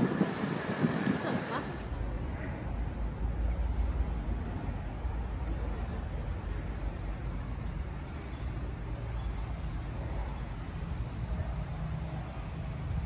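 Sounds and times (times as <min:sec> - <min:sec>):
low urban rumble: 0:00.0 - 0:13.0.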